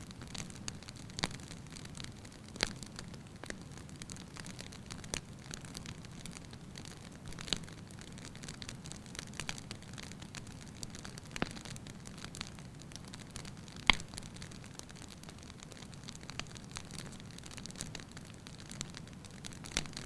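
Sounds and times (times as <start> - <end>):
low fire rumble: 0.0 - 20.0
wood fire crackling: 0.0 - 20.0
fire pops: 0.1 - 20.0.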